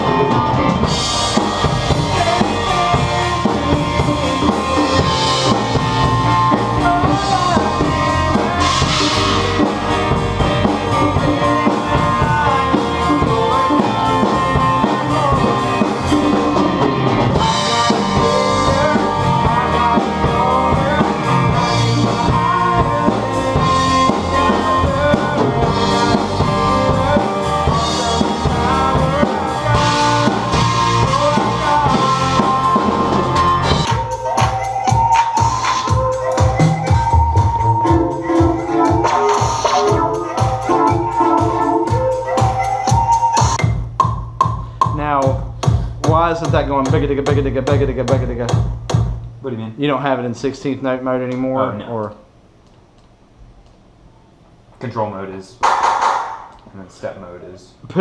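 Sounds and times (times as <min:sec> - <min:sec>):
band playing a song: 0:00.0 - 0:49.2
drum kit beat with rimshots: 0:00.0 - 0:51.8, 0:55.6 - 0:56.6.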